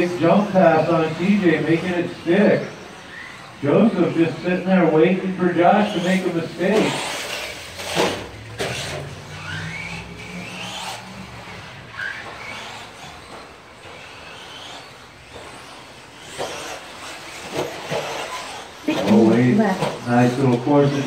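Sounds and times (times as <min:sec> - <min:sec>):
rc truck motors whining: 0:00.0 - 0:21.0.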